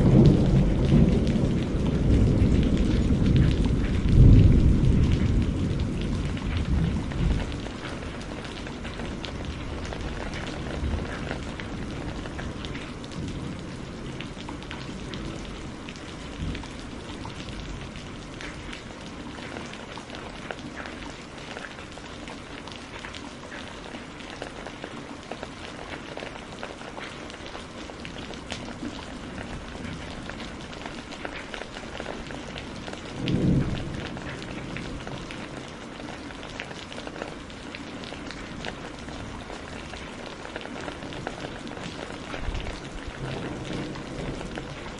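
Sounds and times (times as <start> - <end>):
thunder rumbling: 0.0 - 21.3, 28.0 - 44.9
steady rain falling: 0.0 - 44.9.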